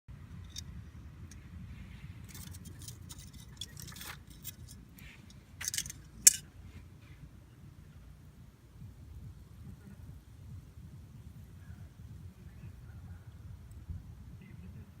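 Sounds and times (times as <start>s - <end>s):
low rumble: 0.1s - 15.0s.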